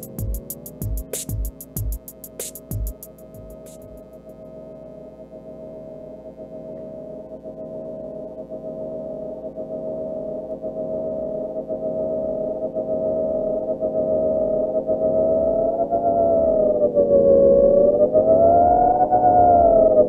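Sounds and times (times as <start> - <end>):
sustained pitched tone: 3.0 - 20.0.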